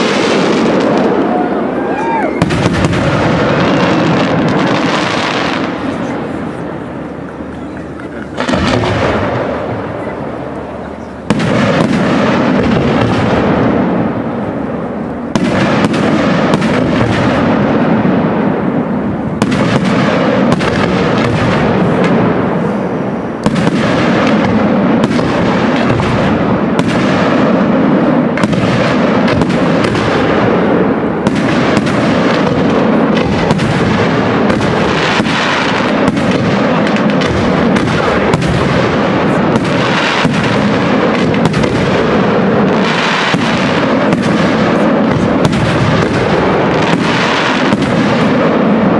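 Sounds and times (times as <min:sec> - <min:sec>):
fireworks bursting with crackling: 0:00.0 - 0:48.9.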